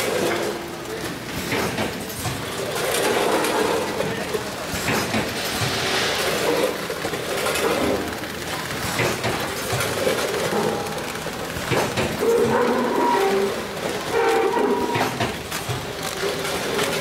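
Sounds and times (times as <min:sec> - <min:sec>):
machine clatter: 0:00.0 - 0:17.0.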